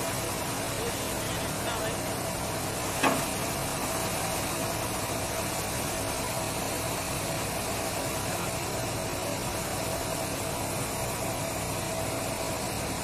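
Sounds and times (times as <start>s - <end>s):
drilling rig air blasting water: 0.0s - 13.0s.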